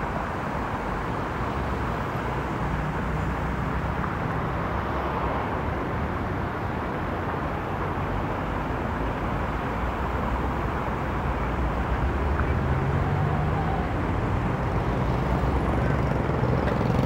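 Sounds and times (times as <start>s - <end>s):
car engines and tyres: 0.0s - 17.0s.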